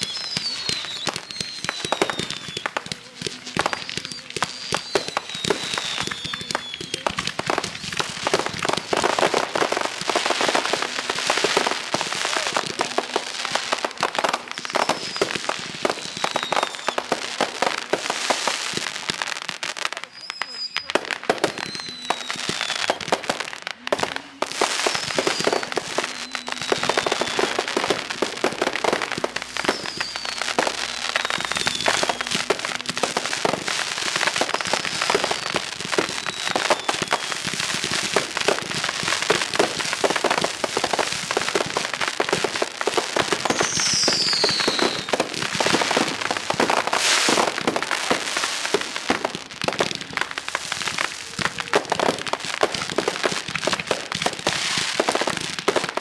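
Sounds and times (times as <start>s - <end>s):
falling firework whistles: 0.0s - 2.9s, 3.6s - 9.4s, 14.4s - 18.6s, 20.0s - 55.4s
fireworks crackling and popping: 0.0s - 56.0s.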